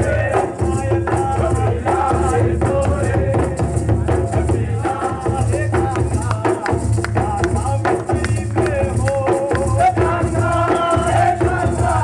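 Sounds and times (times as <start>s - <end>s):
barrel drums beating: 0.0s - 12.0s
voices singing: 0.0s - 12.0s.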